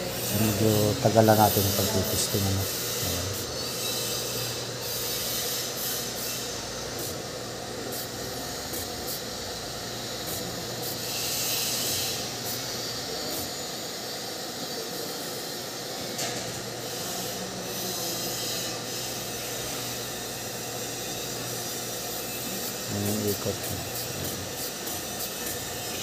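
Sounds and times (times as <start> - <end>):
electric motor humming: 0.0 - 15.8, 16.6 - 26.0.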